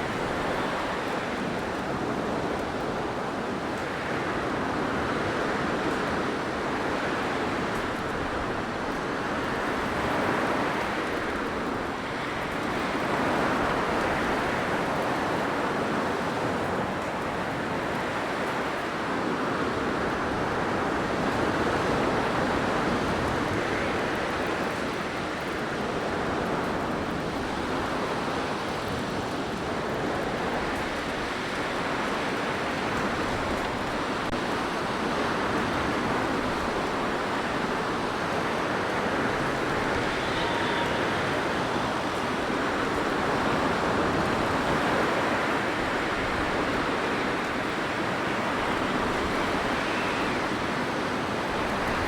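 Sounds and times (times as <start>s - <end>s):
blizzard wind howling: 0.0s - 52.0s.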